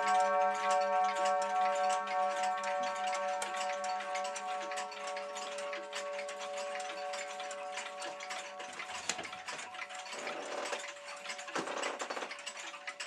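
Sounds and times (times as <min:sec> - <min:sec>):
clock gong ringing: 0:00.0 - 0:12.0
clock ticking: 0:00.0 - 0:13.0
clockwork rattling: 0:00.0 - 0:13.0.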